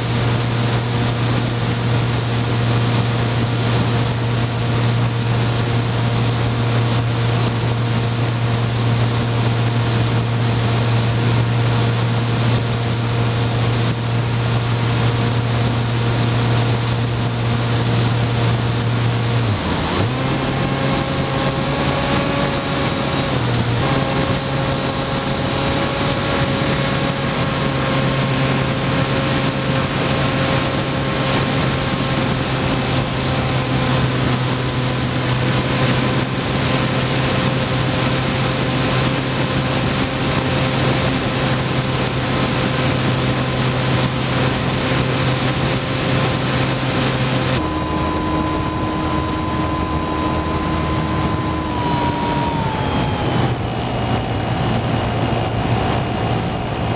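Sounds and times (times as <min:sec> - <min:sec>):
model plane motor whine: 0:00.0 - 0:56.9
wind rush: 0:00.0 - 0:56.9.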